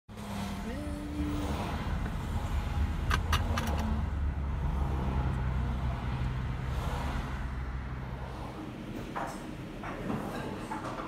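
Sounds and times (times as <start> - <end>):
car engine and road noise: 0.1 - 10.0.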